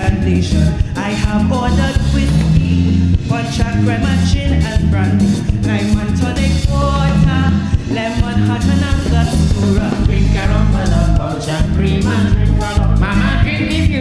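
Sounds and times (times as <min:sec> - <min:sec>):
live band playing: 0:00.0 - 0:14.0
person singing: 0:00.0 - 0:14.0
steady bass line: 0:00.0 - 0:14.0.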